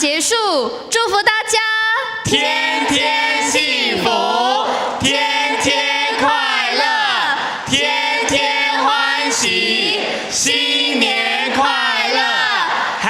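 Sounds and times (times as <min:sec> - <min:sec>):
group singing in unison: 0:02.2 - 0:13.0.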